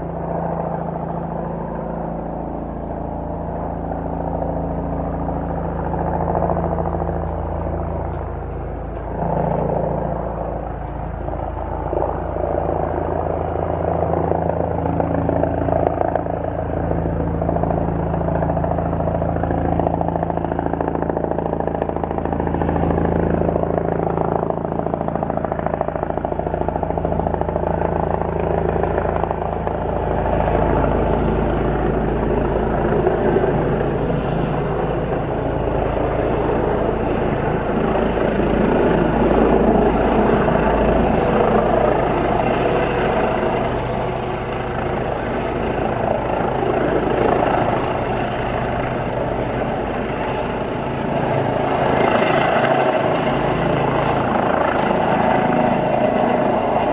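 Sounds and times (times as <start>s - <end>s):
helicopter rotor and engine: 0.0s - 56.9s.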